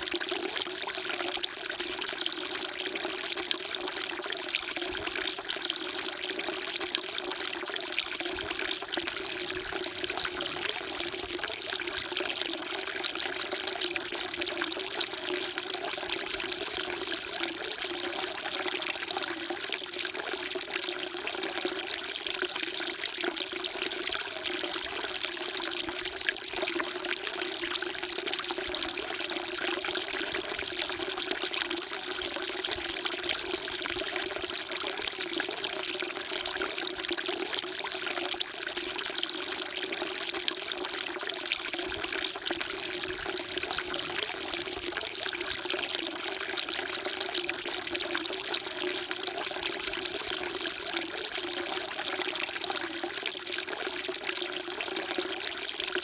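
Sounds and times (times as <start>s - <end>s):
water pouring into stone trough: 0.0s - 56.0s.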